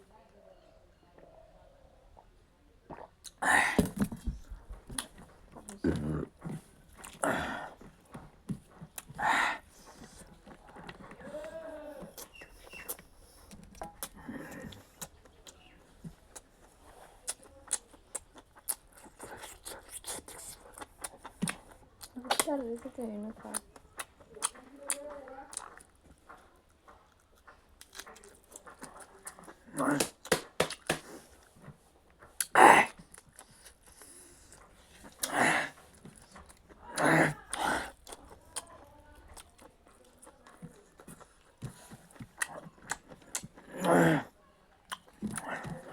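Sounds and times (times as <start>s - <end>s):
person eating with mouth smacks: 2.9s - 45.9s.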